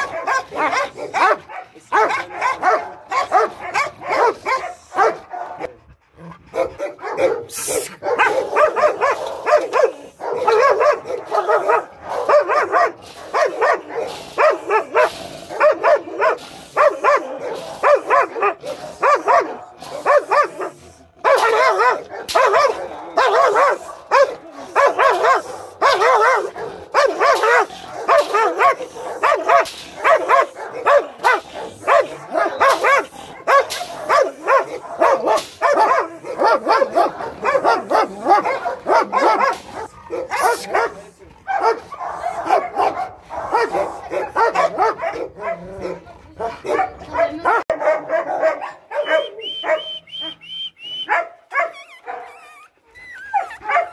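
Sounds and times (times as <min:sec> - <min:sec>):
dogs barking: 0:00.0 - 0:53.9.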